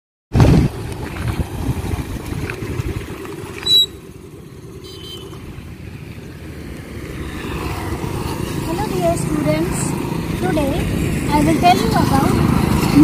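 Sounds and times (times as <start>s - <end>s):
motorbike passing: 0.4s - 13.0s
scooter engine rumbling: 0.4s - 13.0s.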